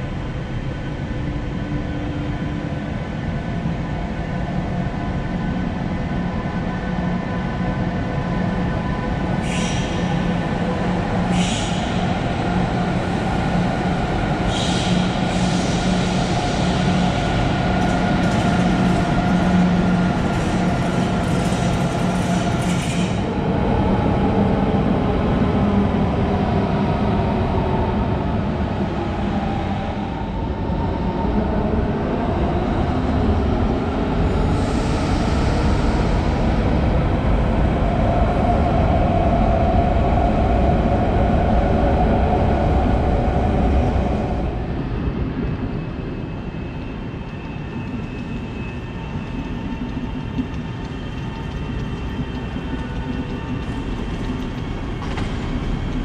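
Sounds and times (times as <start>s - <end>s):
train humming and hissing past: 0.0s - 56.0s.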